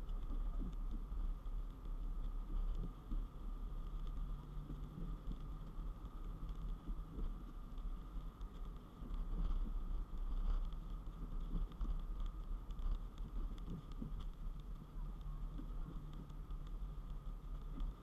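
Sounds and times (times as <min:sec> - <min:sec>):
car road and engine rumble: 0:00.0 - 0:18.0
faint ticks: 0:00.0 - 0:18.0.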